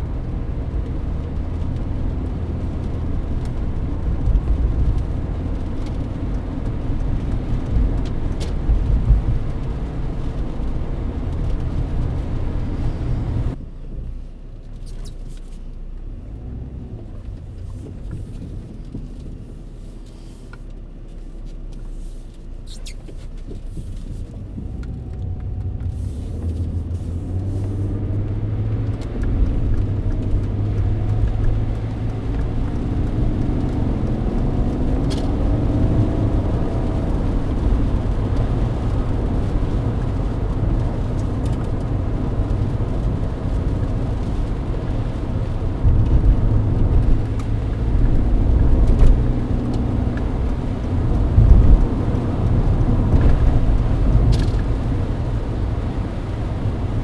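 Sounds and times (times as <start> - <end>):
car engine hum inside cabin: 0.0 - 57.0.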